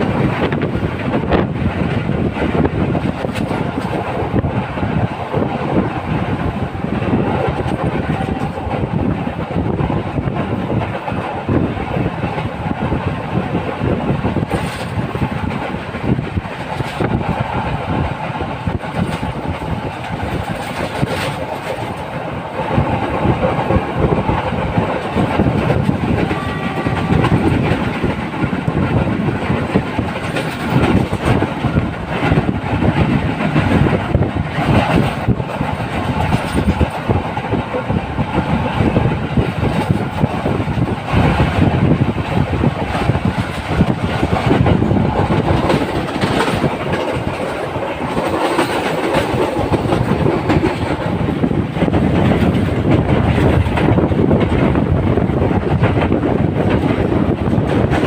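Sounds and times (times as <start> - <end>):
train knock: 0.0 - 58.0
train rumbling on rails: 0.0 - 58.0
wheels clickety-clack over rail joints: 0.0 - 58.0.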